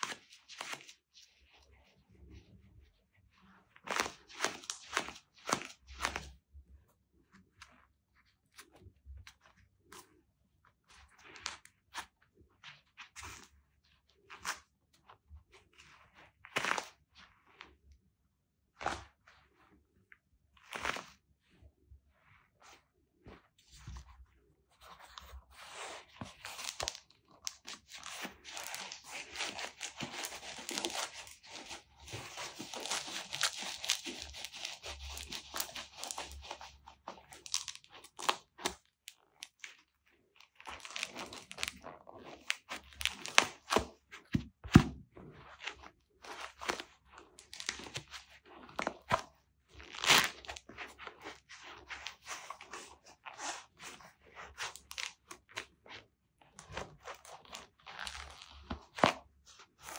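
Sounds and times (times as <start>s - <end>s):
gloves rustling and rubbing: 0.0s - 17.8s, 18.6s - 59.9s.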